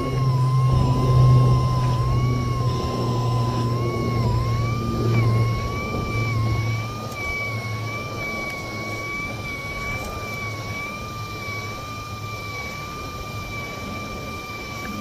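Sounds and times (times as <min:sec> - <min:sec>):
motor whining: 0:00.0 - 0:15.0
wind on microphone: 0:00.0 - 0:15.0.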